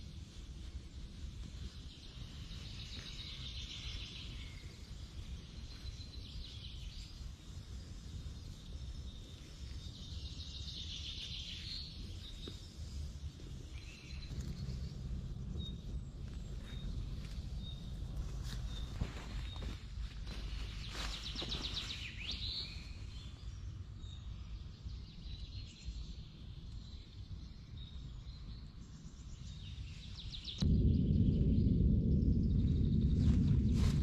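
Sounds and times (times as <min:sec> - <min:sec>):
small birds trilling: 0:00.0 - 0:34.0
steady low rumble: 0:00.0 - 0:34.0.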